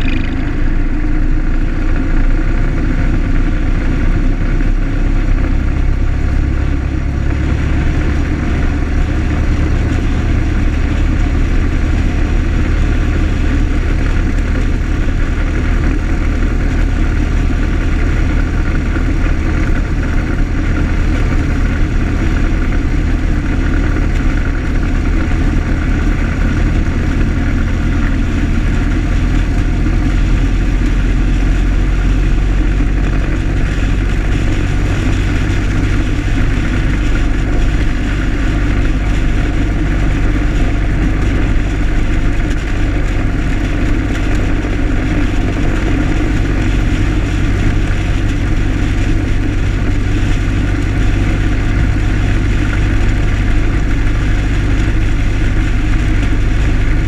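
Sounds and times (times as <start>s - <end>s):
car engine running: 0.0s - 57.0s
road and wind noise: 0.0s - 57.0s.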